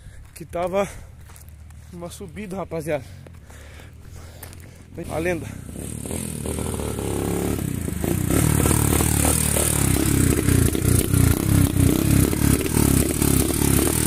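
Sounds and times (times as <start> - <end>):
motorcycle engine pulsing: 1.2 - 14.0.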